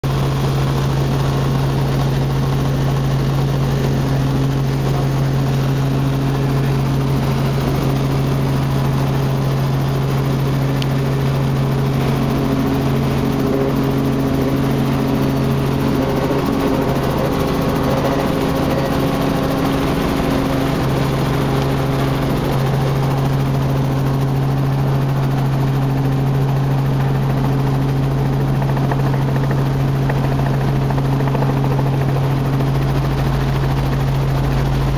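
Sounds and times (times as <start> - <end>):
helicopter cabin drone: 0.0 - 34.9.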